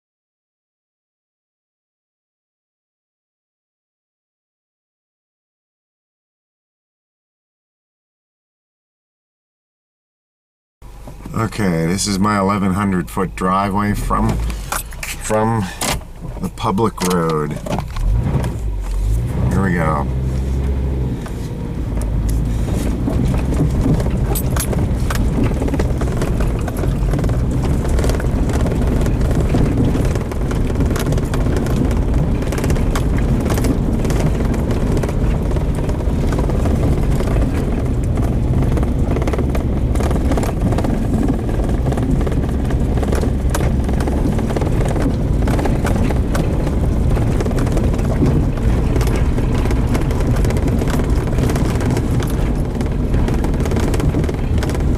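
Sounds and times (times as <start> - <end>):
car engine and road rumble: 10.8 - 54.9.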